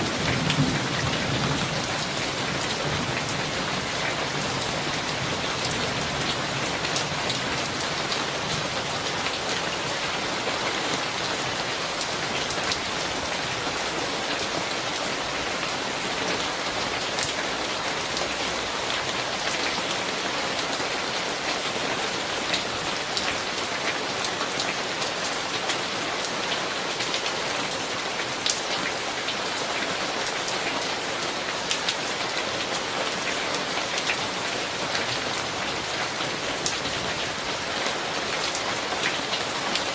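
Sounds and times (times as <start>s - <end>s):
heavy rain falling: 0.0s - 39.9s
raindrops ticking on surfaces: 0.0s - 39.9s.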